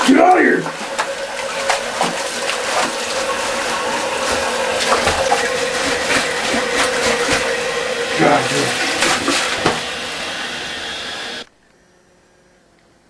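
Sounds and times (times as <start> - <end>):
plunger sloshing in toilet water: 0.0 - 11.4.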